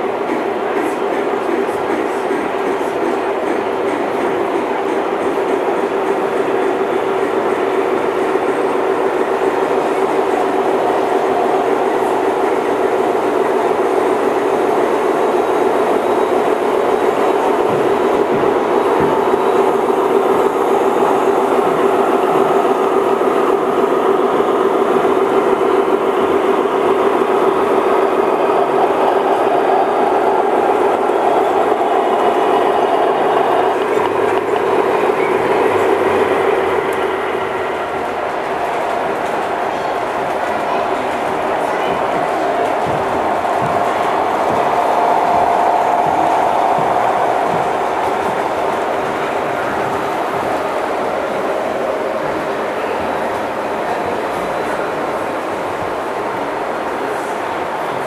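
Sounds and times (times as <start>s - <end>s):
wheels rumbling on metal track: 0.3s - 58.0s.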